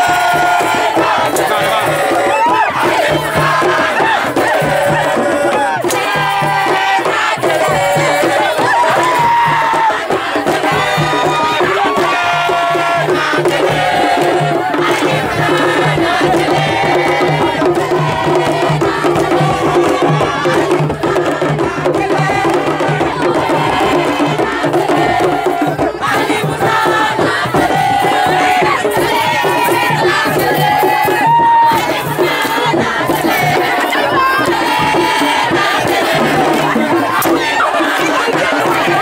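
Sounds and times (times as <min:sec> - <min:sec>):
pulsing drum rhythm: 0:00.0 - 0:39.0
voices singing together: 0:00.0 - 0:39.0.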